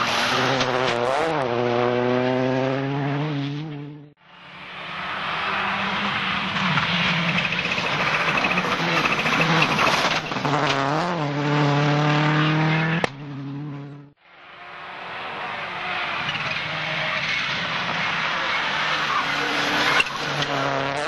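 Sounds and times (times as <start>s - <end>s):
rally car engine at high revs: 0.0s - 14.2s, 14.8s - 21.0s.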